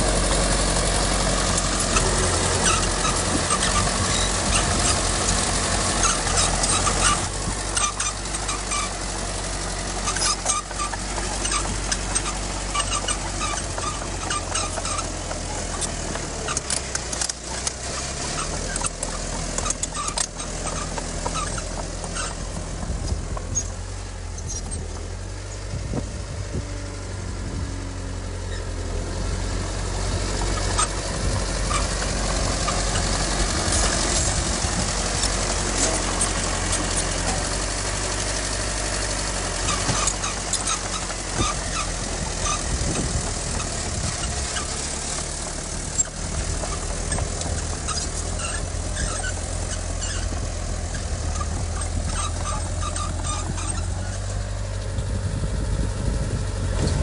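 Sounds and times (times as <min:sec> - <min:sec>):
heavy machinery diesel engine: 0:00.0 - 0:57.0
metallic clanks and rattles: 0:00.1 - 0:26.2, 0:30.2 - 0:55.7.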